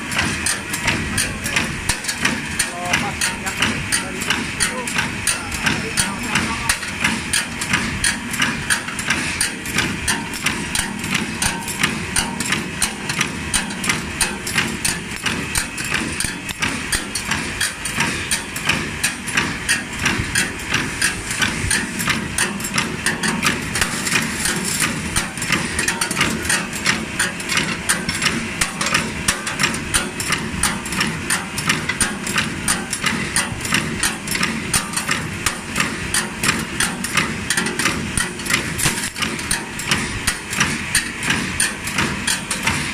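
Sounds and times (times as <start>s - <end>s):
cutter metallic clacks: 0.0s - 42.9s
wire straightening machine running: 0.0s - 42.9s.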